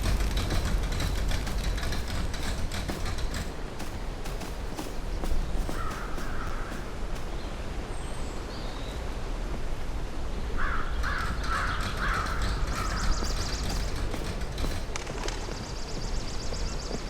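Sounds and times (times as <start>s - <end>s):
harsh bird calls: 0.0s - 9.1s, 10.4s - 17.0s
outdoor rumble and hiss: 0.0s - 17.0s.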